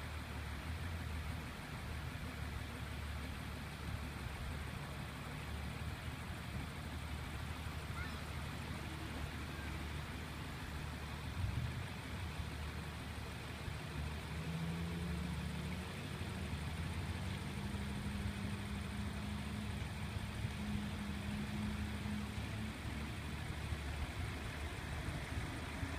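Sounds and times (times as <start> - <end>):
engine humming: 0.0 - 25.9.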